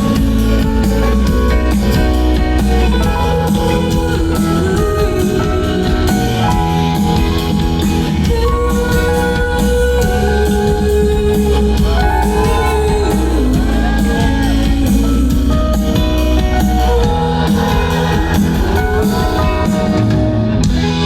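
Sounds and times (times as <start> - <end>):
drum beat: 0.0 - 20.9
amplified guitar: 0.0 - 21.0
live indie pop band playing: 0.0 - 21.0
steady bass notes: 0.0 - 21.0.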